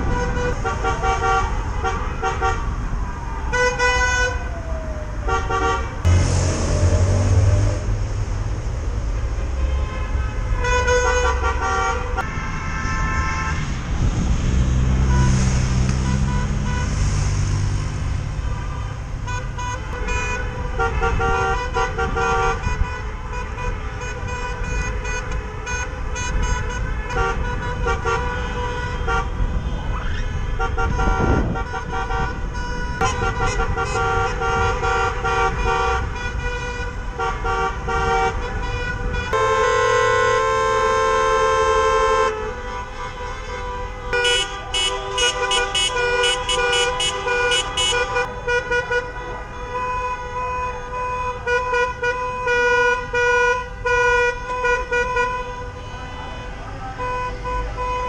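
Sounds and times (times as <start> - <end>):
car horns honking: 0.0 - 2.8, 3.4 - 4.5, 5.2 - 8.5, 9.2 - 58.0
engine and road noise: 0.0 - 58.0.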